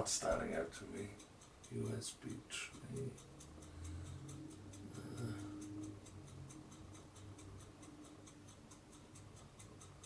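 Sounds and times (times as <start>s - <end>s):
rapid ticking: 0.0s - 10.0s.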